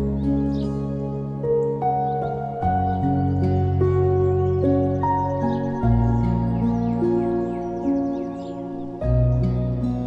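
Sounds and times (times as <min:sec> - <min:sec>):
calm new-age music: 0:00.0 - 0:10.0
faint bird chirps: 0:01.6 - 0:10.0.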